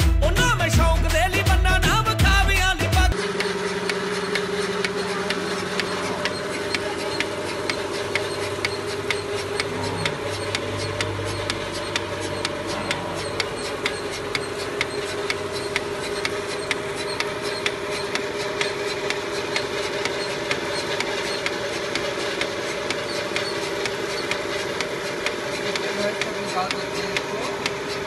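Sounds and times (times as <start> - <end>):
vacuum pump motor hum: 1.0 - 28.0
pulsator clicking: 3.1 - 28.0.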